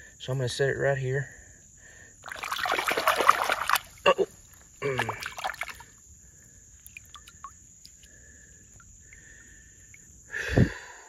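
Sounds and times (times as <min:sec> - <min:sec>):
thin insect drone: 0:00.0 - 0:11.0.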